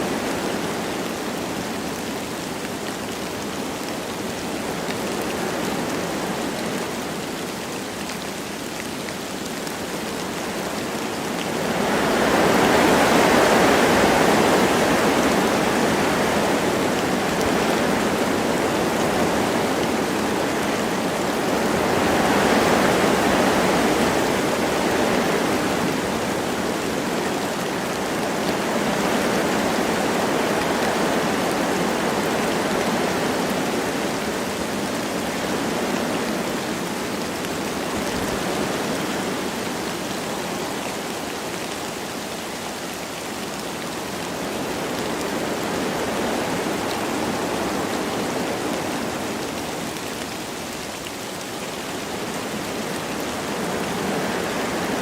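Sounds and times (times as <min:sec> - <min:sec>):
light rain falling: 0:00.0 - 0:55.0
wind through trees: 0:00.0 - 0:55.0.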